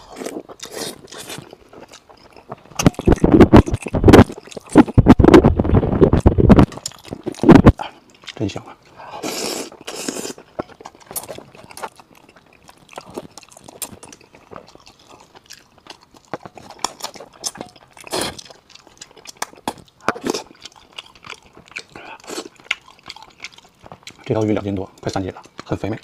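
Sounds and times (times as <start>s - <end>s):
man chewing food: 0.0s - 26.0s.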